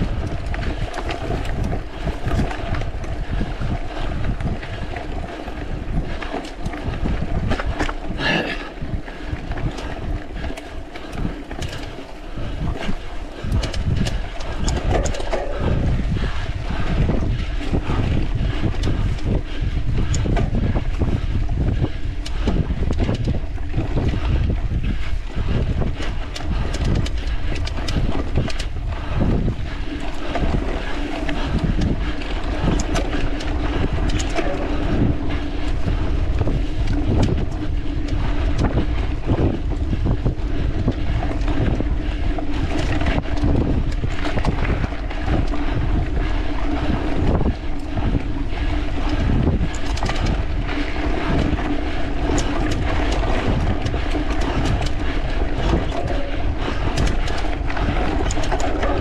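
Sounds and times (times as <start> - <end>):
bike rattles and clicks: 0.0 - 59.0
low steady hum: 0.0 - 59.0
wind buffeting microphone: 0.0 - 59.0.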